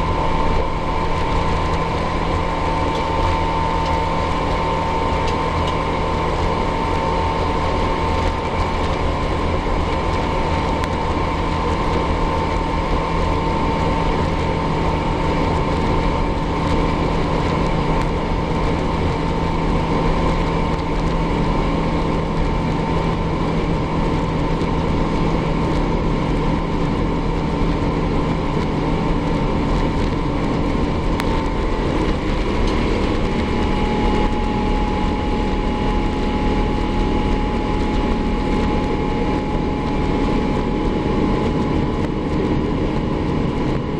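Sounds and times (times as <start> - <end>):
jet engines heard from cabin: 0.0 - 43.9.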